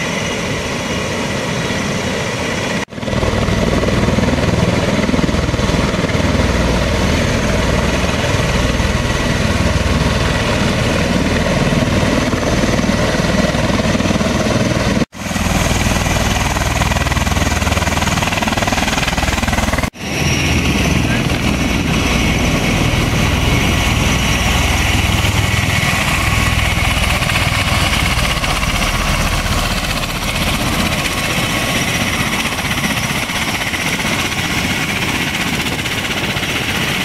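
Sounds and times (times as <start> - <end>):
tiltrotor aircraft engines running: 0.0 - 37.0.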